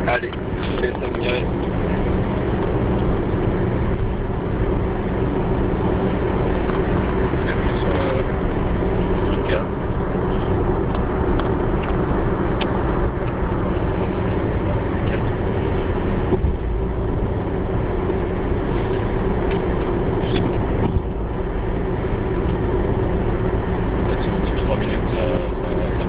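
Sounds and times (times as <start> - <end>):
car engine: 0.0 - 26.0
road noise: 0.0 - 26.0.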